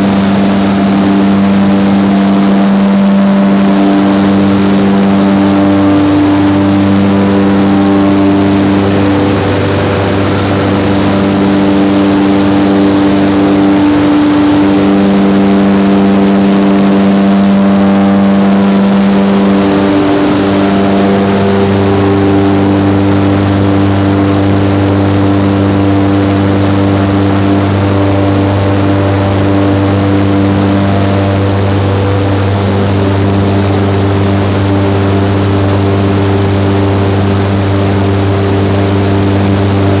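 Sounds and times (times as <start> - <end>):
large ventilation fan droning: 0.0 - 40.0.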